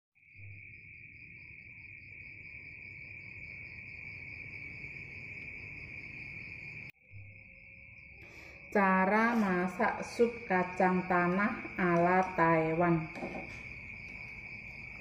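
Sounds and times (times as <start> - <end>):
cricket trilling: 0.2 - 15.0.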